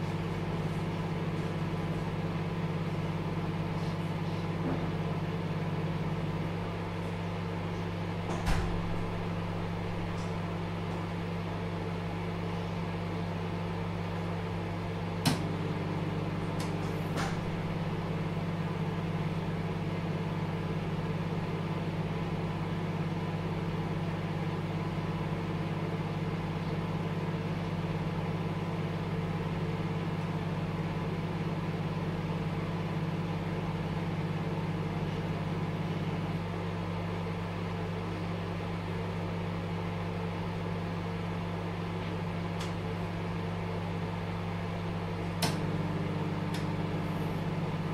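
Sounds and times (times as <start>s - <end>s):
microwave oven humming: 0.0s - 47.9s.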